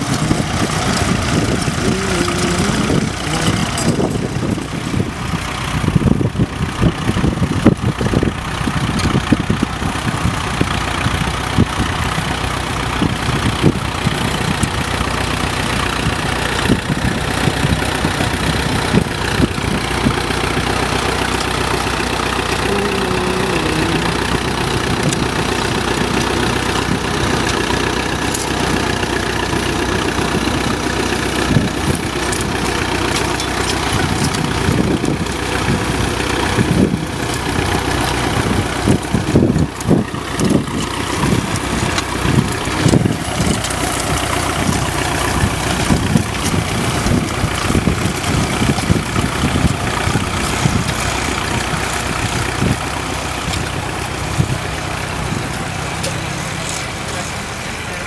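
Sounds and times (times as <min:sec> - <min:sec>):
tractor engine running under load: 0:00.0 - 0:58.0.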